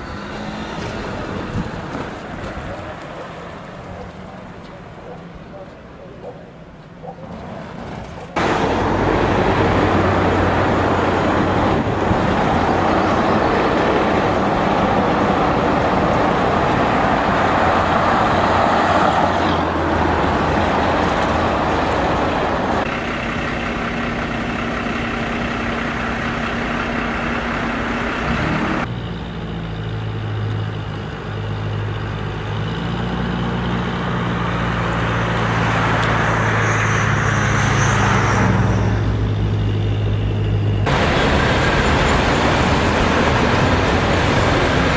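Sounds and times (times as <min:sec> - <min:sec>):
cars and trucks running: 0:00.0 - 0:44.9
low engine hum: 0:00.0 - 0:44.9.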